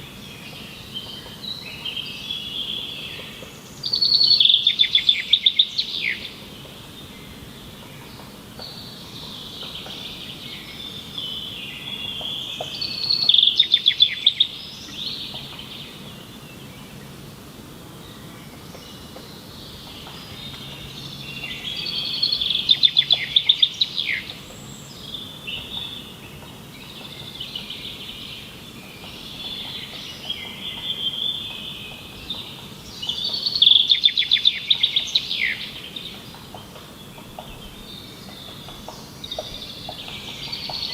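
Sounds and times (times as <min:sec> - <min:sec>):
songbirds chirping and warbling: 0:00.0 - 0:40.9.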